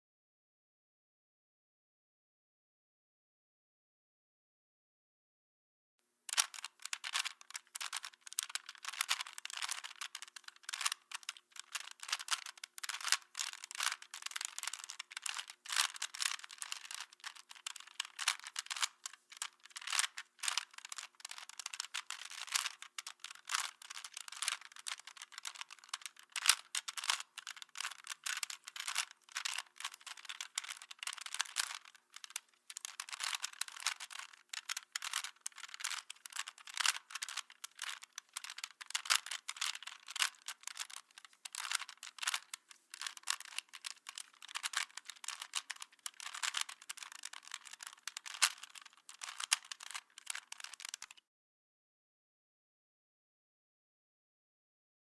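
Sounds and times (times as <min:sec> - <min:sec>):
puzzle cube clicking and twisting: 0:06.3 - 0:51.2.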